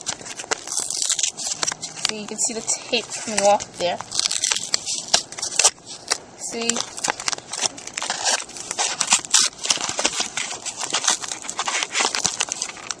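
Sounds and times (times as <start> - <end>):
paper envelope tearing and crinkling: 0.0 - 13.0.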